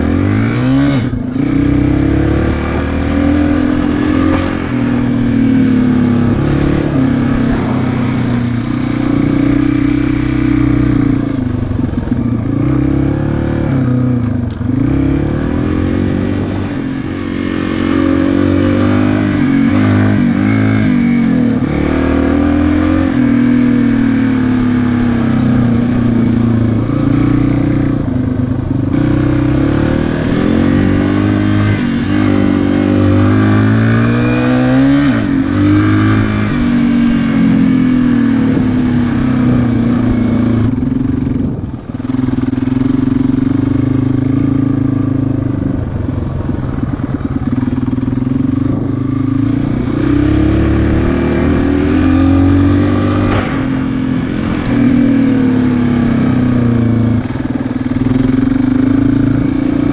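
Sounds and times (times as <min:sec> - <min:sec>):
dirt bike engine running hard: 0:00.0 - 0:59.9.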